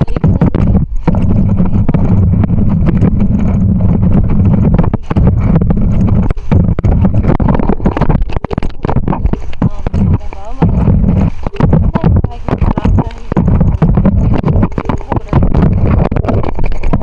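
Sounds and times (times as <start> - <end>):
knocks and rattles: 0.0 - 17.0
wind buffeting microphone: 0.0 - 17.0.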